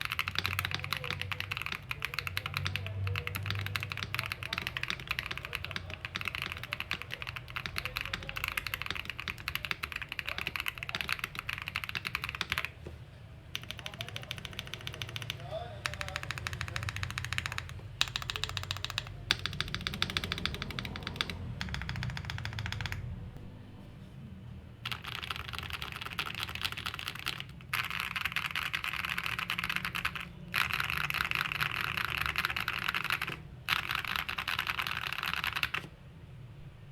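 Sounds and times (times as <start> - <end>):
typing on mechanical keyboard: 0.0 - 12.9, 13.5 - 23.1, 24.9 - 35.9.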